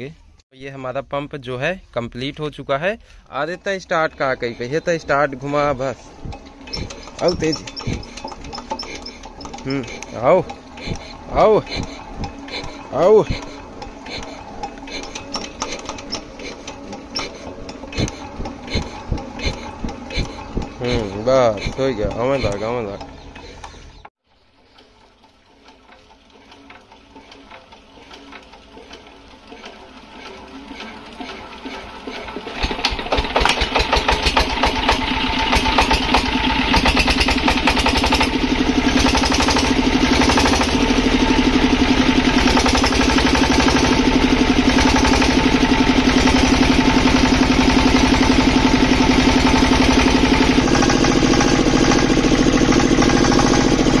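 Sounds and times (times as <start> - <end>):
diesel engine running: 2.8 - 54.0.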